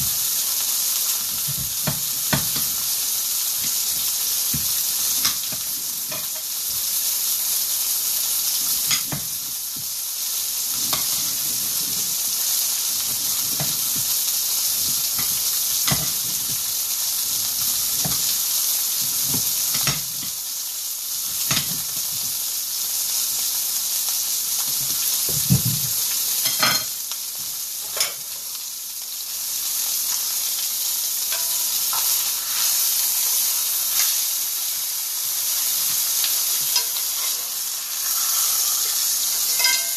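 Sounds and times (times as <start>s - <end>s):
meat sizzling in a skillet: 0.0s - 39.9s.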